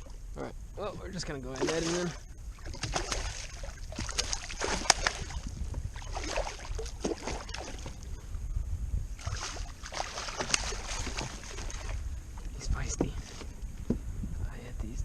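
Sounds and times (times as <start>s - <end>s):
water splashing and sloshing: 0.0s - 8.4s, 9.1s - 14.0s
low wind rumble: 0.0s - 15.0s.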